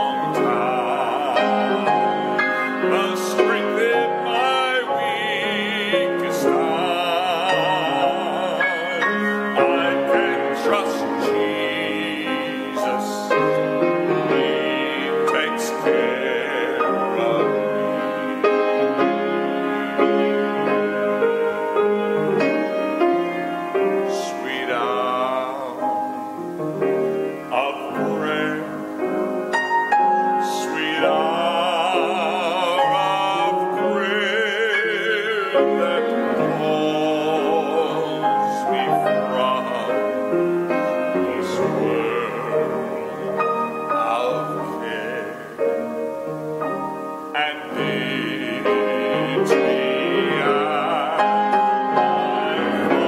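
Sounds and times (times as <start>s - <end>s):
man singing operatically: 0.0s - 46.4s, 47.2s - 53.0s
grand piano accompaniment: 0.0s - 53.0s.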